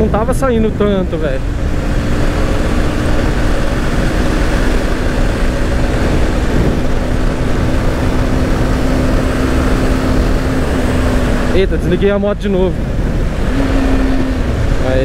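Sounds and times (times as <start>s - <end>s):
motorcycle engine cruising: 0.0s - 15.0s
wind rush on microphone: 0.0s - 15.0s.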